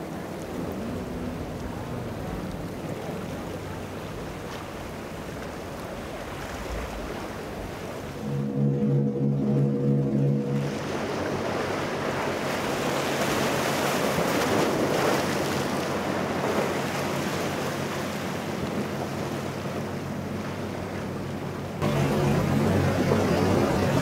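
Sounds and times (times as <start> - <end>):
waves breaking: 0.0 - 24.0.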